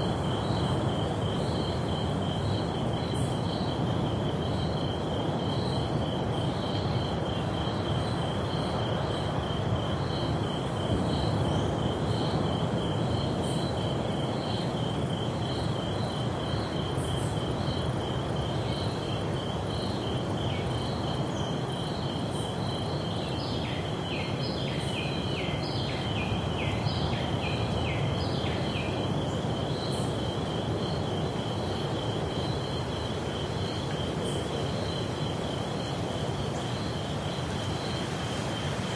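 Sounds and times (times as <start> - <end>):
insect chirping in rapid pulse: 0.0 - 38.9.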